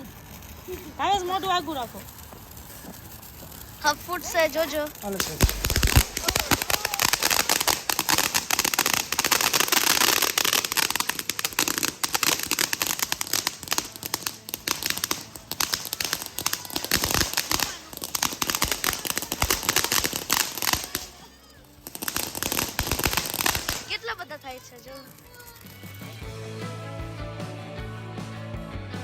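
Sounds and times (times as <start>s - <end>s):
firecrackers popping and crackling: 0.0s - 26.5s.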